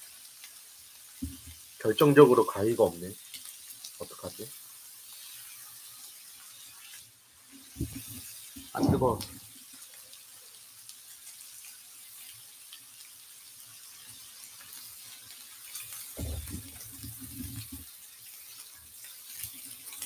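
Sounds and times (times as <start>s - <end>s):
pork sizzling on a grill pan: 0.0s - 20.0s.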